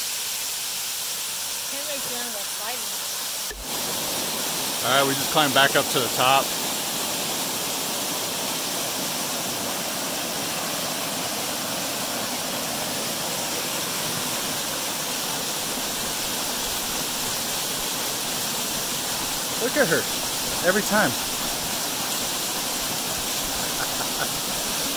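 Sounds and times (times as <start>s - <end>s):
waterfall rushing over rocks: 0.0s - 24.9s.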